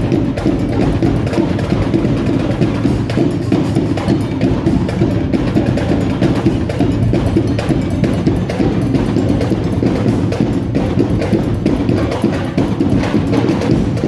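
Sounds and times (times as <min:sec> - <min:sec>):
drumline percussion cadence: 0:00.0 - 0:14.0.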